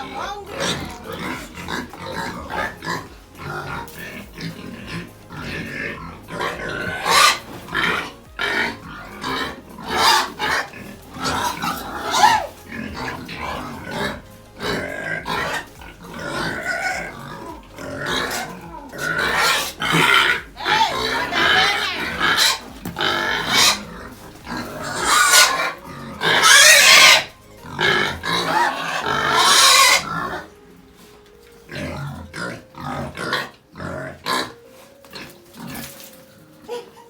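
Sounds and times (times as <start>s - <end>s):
pigs squealing: 0.0s - 37.0s.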